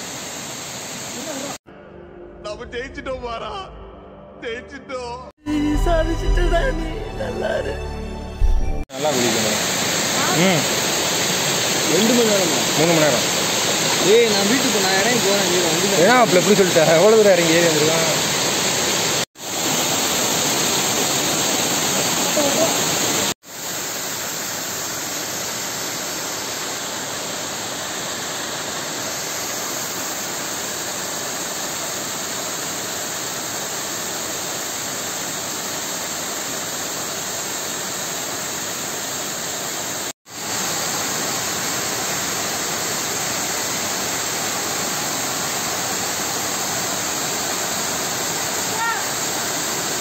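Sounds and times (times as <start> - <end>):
waterfall splashing onto rocks: 0.0 - 1.6, 8.9 - 50.0.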